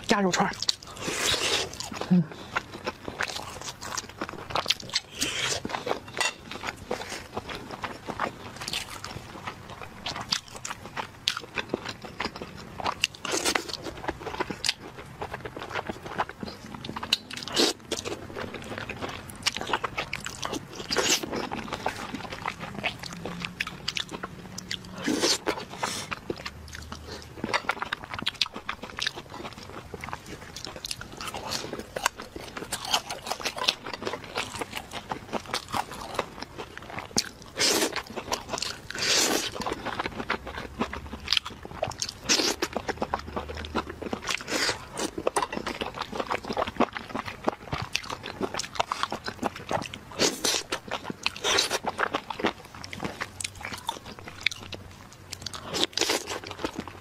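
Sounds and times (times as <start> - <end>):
crunching and chewing food: 0.0 - 57.0.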